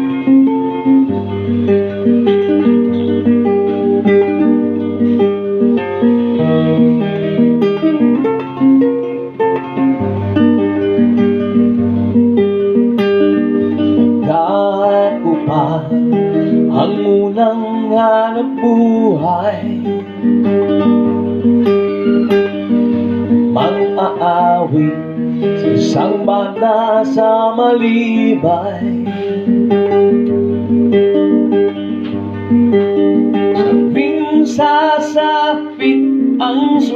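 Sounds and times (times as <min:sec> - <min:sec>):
acoustic guitar strummed chords: 0:00.0 - 0:36.9
sliding guitar melody: 0:00.0 - 0:36.9.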